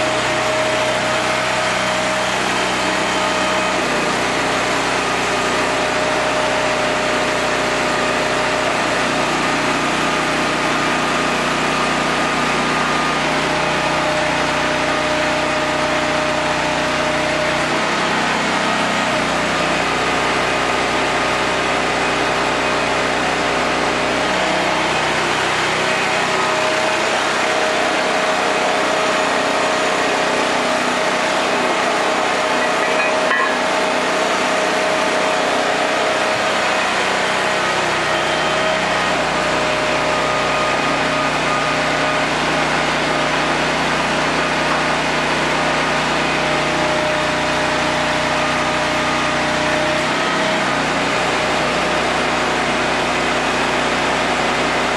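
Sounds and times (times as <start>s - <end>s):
small gasoline engine running: 0.0s - 54.9s.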